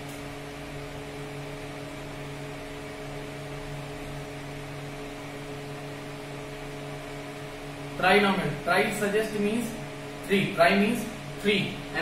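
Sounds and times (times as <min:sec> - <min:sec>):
room hum with hiss: 0:00.0 - 0:12.0.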